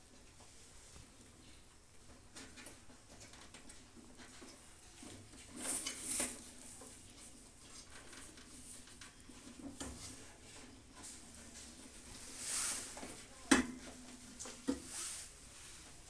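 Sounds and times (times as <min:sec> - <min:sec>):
rustling and scraping on metal: 0:02.3 - 0:16.0.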